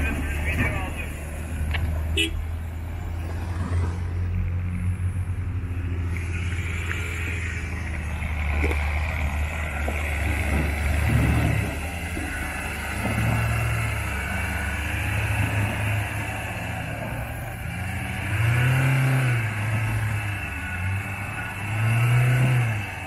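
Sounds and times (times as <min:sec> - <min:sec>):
truck engine running: 0:00.0 - 0:03.3, 0:04.2 - 0:23.0.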